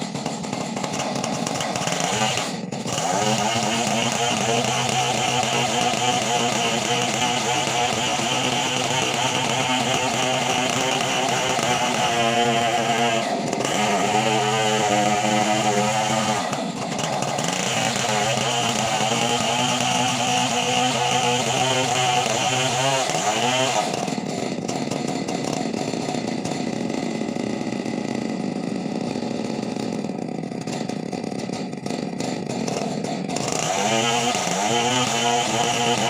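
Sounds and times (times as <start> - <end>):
chainsaw running hard: 0.0 - 36.0.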